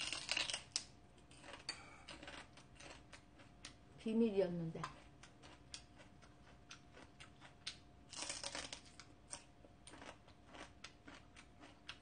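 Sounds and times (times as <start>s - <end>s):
chewing crunches: 0.0s - 3.8s, 4.8s - 12.0s.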